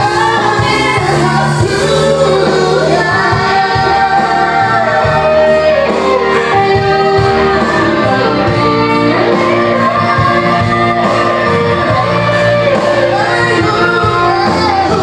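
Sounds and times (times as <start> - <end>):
electronic keyboard accompaniment: 0.0 - 15.0
woman singing through microphone: 0.0 - 15.0.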